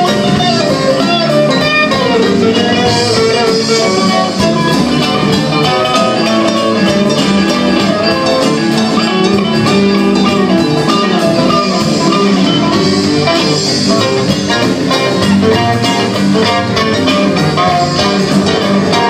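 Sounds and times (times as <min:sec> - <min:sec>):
guitar: 0:00.0 - 0:19.0
live band playing: 0:00.0 - 0:19.0.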